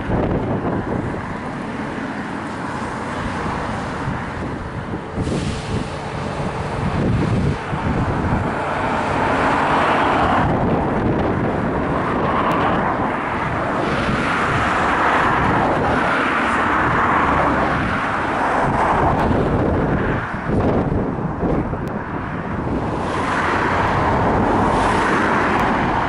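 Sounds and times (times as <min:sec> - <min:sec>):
train engines humming: 0:00.0 - 0:26.0.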